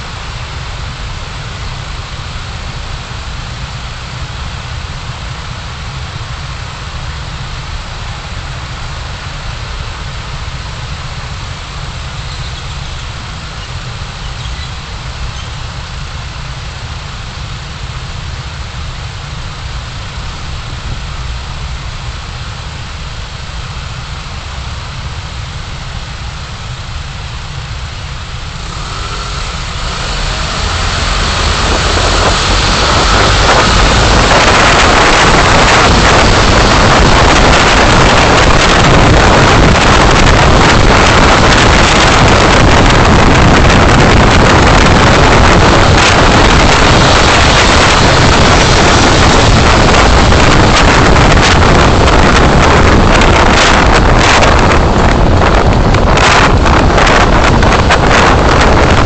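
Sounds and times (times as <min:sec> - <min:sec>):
car engine and road rumble: 0:00.0 - 0:59.0
road and wind noise: 0:00.0 - 0:59.0.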